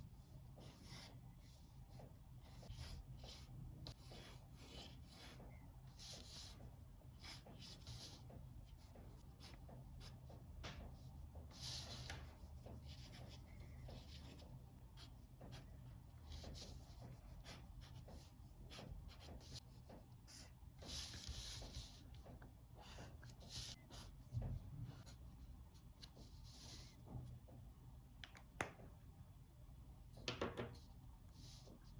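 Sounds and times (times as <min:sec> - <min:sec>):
pencil sketching on paper: 0:00.1 - 0:27.0.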